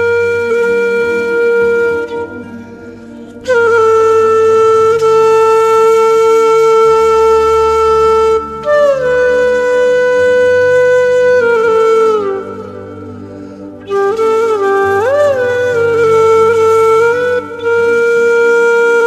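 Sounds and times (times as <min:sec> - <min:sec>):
slow wind instrument melody: 0:00.0 - 0:19.0.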